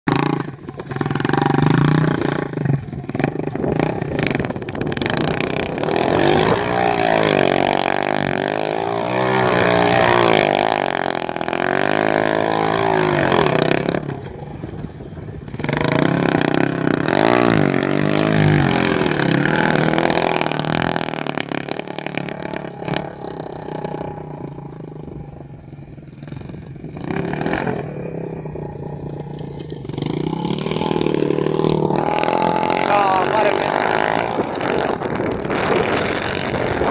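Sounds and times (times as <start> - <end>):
motorbike engine revving hard: 0.1 - 36.9.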